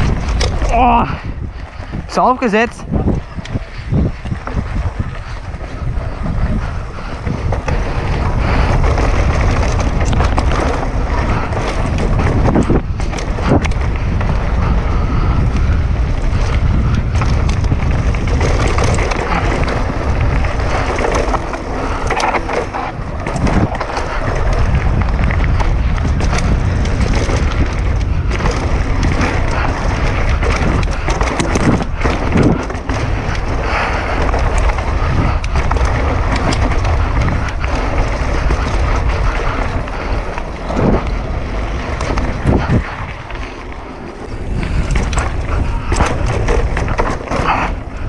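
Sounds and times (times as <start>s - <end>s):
bike knocks and rattles: 0.0s - 48.0s
wind rush on microphone: 0.0s - 48.0s.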